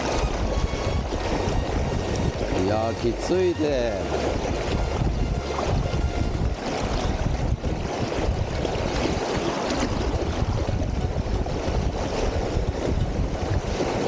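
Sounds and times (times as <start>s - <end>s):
river current rushing and splashing: 0.0s - 14.0s
wind buffeting microphone: 0.0s - 14.0s.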